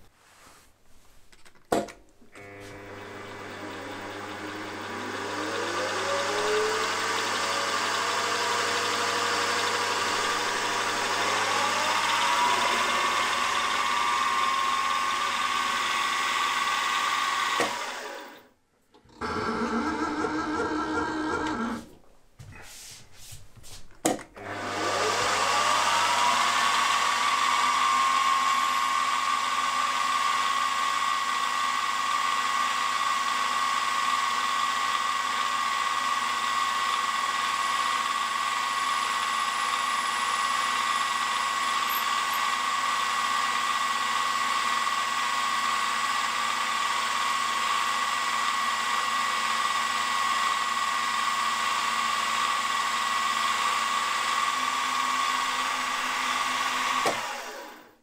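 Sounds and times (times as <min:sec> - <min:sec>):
milling machine spindle whining: 0:02.4 - 0:18.5, 0:24.4 - 0:57.9.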